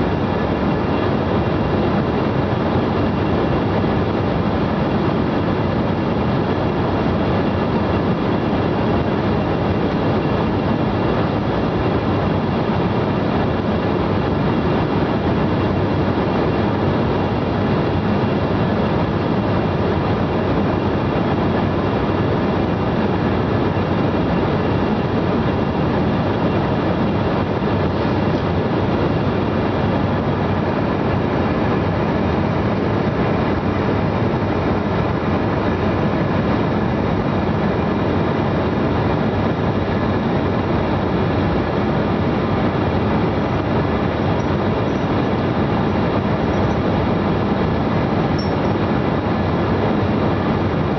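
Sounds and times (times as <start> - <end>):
airliner engine and airflow roar: 0.0 - 50.9
faint steady hum: 0.0 - 50.9.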